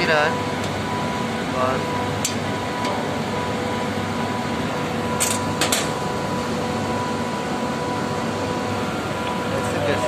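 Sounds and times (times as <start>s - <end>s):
machinery hum: 0.0s - 10.0s
thin steady whine: 0.0s - 10.0s.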